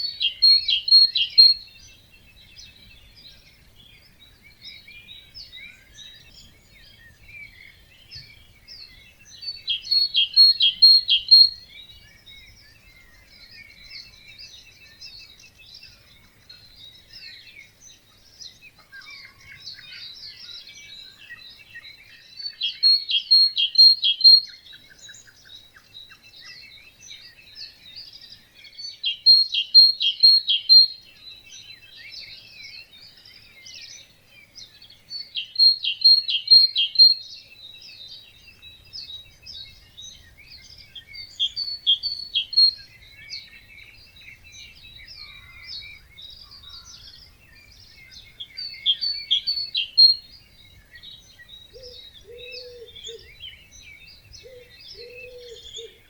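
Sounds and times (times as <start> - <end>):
bird song of quick high chirps: 0.0 - 56.0
songbirds chorus: 0.0 - 56.0.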